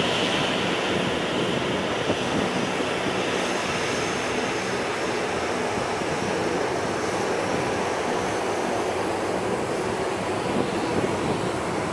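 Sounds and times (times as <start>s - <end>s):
distant jet engine rumble: 0.0s - 11.9s.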